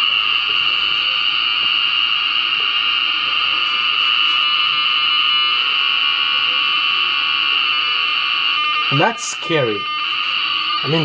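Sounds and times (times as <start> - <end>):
alarm buzzer with fast flutter: 0.0 - 11.0.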